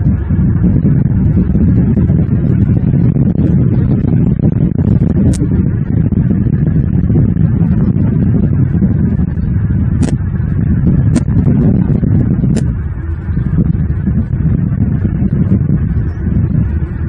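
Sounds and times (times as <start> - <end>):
low rumbling noise: 0.0 - 17.0.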